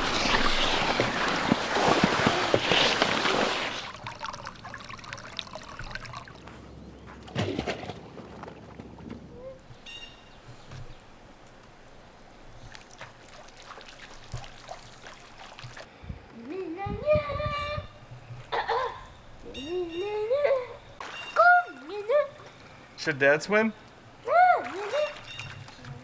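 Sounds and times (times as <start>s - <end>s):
pool water splashing: 0.0s - 15.9s, 17.9s - 26.0s
water lapping: 0.0s - 15.9s, 17.9s - 26.0s.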